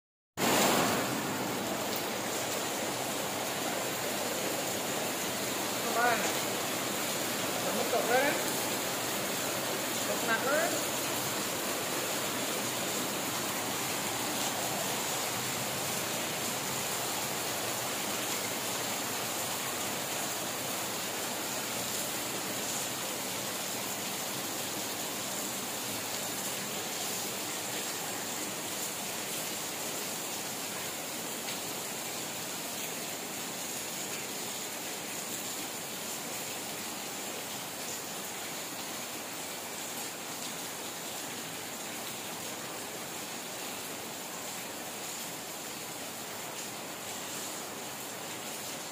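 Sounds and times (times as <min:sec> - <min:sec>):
steady rain falling: 0:00.4 - 0:48.9.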